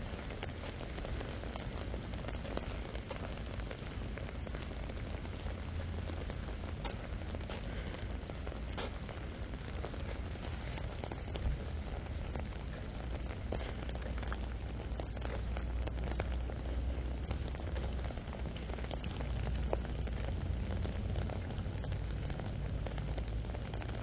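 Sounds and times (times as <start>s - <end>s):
raindrops ticking: 0.0s - 24.0s
steady low rumble: 0.0s - 24.0s.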